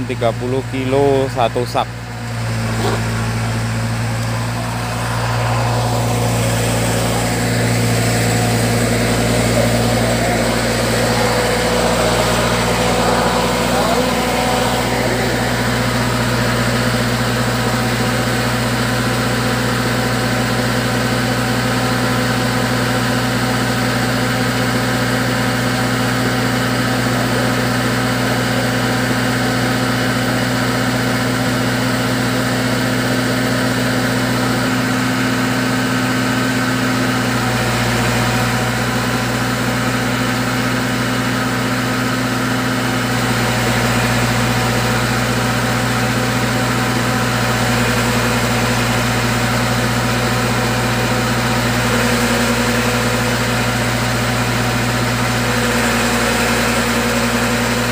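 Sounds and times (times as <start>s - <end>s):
machine engine drone: 0.0s - 28.9s, 32.9s - 57.9s.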